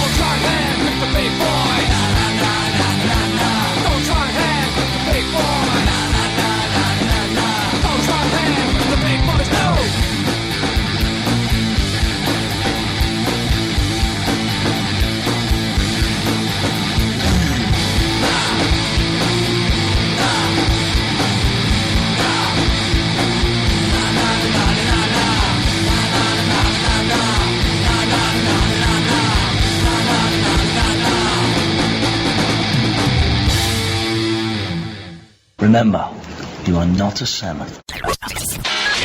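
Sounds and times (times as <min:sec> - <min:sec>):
instrumental rock music: 0:00.0 - 0:35.4.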